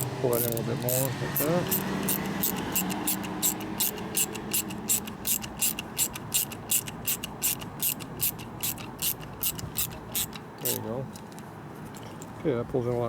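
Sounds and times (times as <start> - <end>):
ratchet clicking: 0.0 - 11.4.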